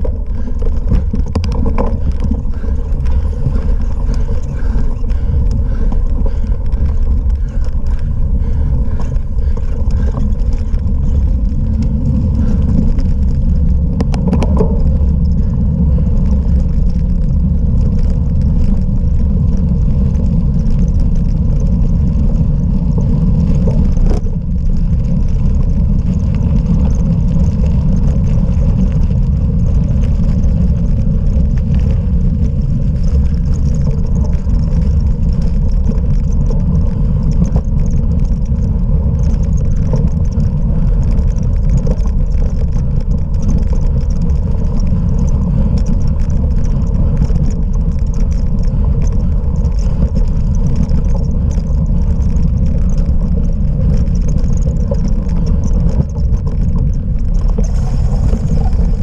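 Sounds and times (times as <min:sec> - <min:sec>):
bicycle rolling noise: 0:00.0 - 0:59.0
wind rumble: 0:00.0 - 0:59.0.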